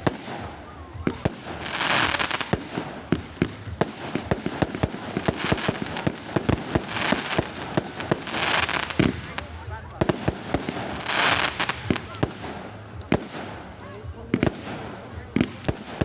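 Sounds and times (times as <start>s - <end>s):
fireworks bangs and cracks: 0.0s - 16.0s
fireworks hissing and crackling: 0.0s - 16.0s.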